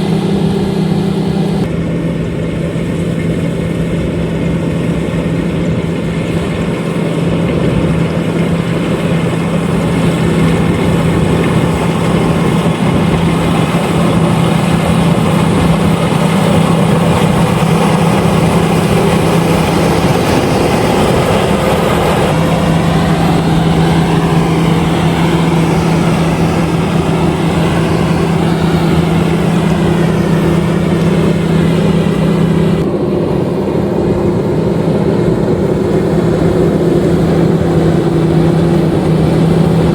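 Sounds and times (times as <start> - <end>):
combine harvester engine drone: 0.0 - 39.9
threshing machinery rushing: 0.0 - 39.9.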